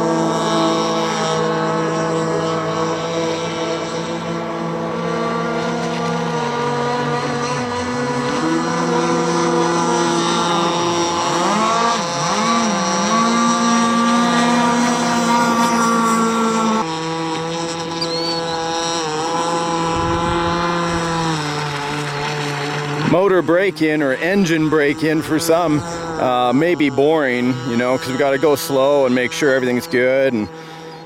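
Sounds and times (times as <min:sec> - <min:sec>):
model boat gas engine running: 0:00.0 - 0:31.0.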